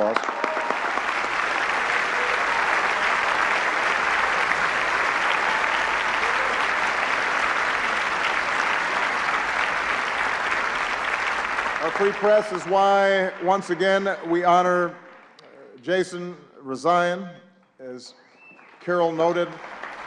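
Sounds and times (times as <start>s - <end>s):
audience applauding: 0.0s - 15.4s, 18.4s - 20.0s.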